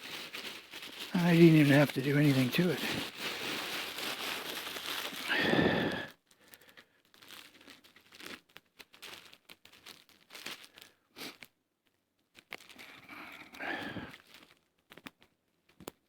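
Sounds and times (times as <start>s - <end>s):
campfire twigs crackling: 0.0s - 11.4s, 12.4s - 15.3s.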